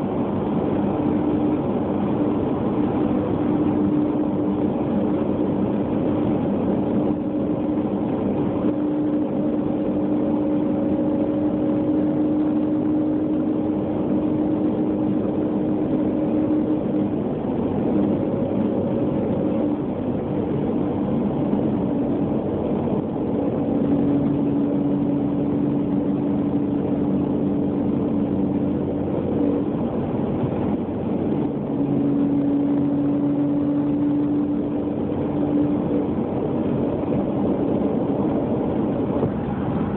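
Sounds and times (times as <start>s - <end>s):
car engine rumble: 0.0s - 39.9s
engine whine: 0.0s - 39.9s.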